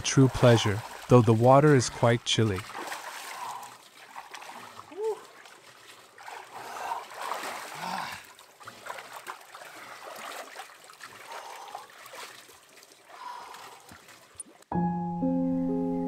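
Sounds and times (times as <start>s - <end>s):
water trickling into pool: 0.0s - 14.7s.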